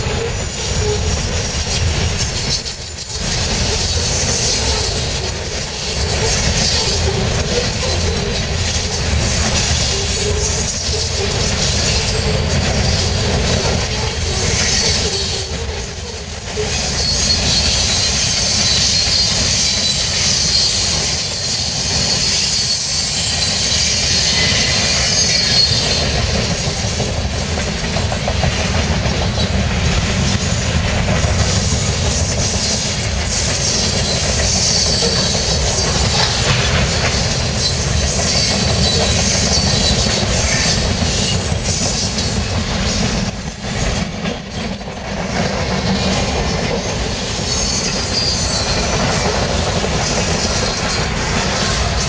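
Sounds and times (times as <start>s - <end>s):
high wheel squeal: 0.0s - 27.0s, 31.4s - 43.8s, 45.6s - 52.0s
freight cars rumbling and clattering: 0.0s - 52.0s.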